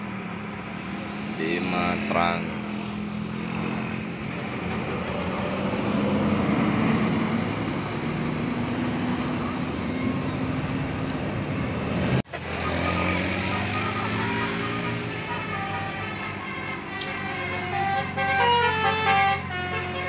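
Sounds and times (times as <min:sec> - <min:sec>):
motorcycle passing: 0:00.0 - 0:19.4
cars passing: 0:00.0 - 0:20.0
coach diesel engine: 0:00.0 - 0:20.0.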